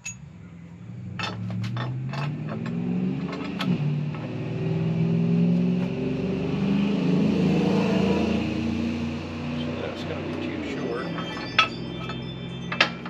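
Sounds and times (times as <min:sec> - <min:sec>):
engine revving: 0:00.5 - 0:13.0.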